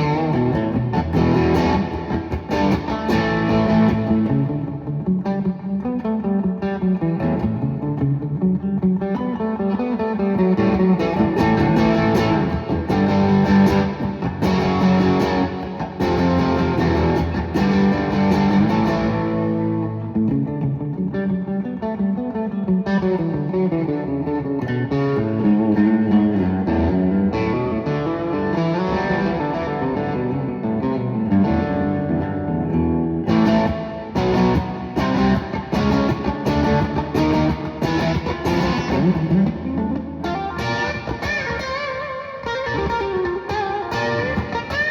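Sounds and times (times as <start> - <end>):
plucked guitar melody: 0.0 - 44.9.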